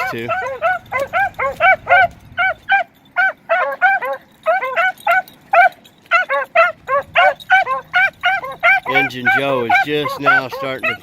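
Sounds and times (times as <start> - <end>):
hounds barking: 0.0 - 11.0.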